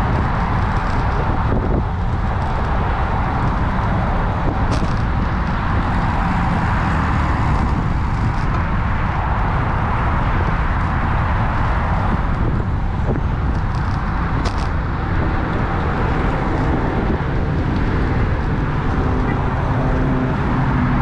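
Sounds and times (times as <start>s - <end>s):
road rumble: 0.0s - 21.0s
wind rush on microphone: 0.0s - 21.0s.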